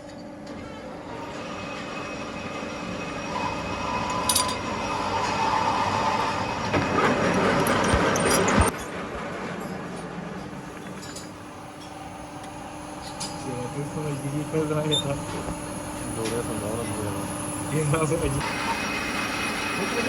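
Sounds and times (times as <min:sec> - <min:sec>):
factory machinery running: 0:01.0 - 0:20.0.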